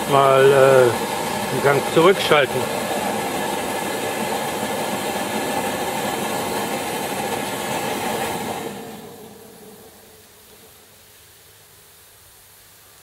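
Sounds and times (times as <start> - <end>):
pressure burner rushing: 0.0 - 10.8.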